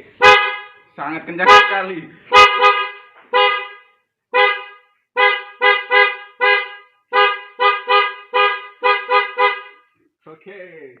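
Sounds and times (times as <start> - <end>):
loud car horn honks: 0.1 - 10.0.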